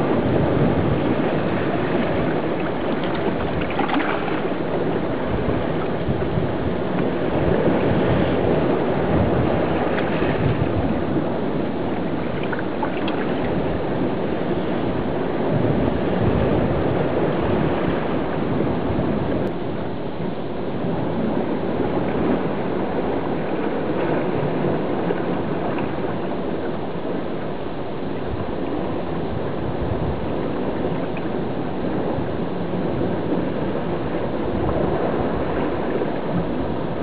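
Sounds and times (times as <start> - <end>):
muffled underwater surf rushing: 0.0 - 37.0.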